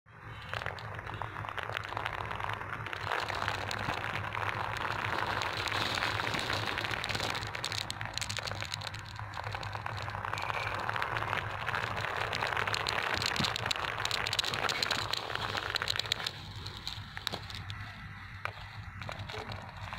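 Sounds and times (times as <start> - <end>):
marbles rolling on sandy dirt: 0.1 - 19.9
small clicks of marbles: 0.2 - 19.9.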